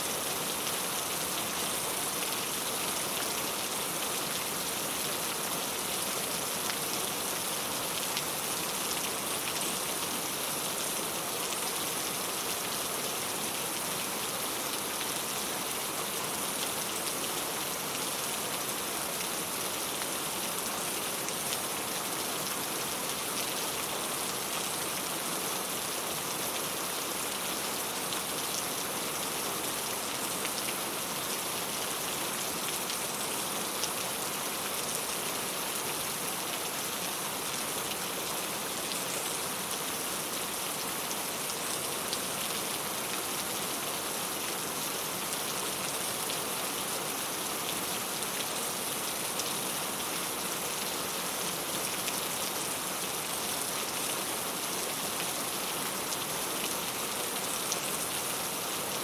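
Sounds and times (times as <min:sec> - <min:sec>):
rain on a tile roof: 0:00.0 - 0:59.0.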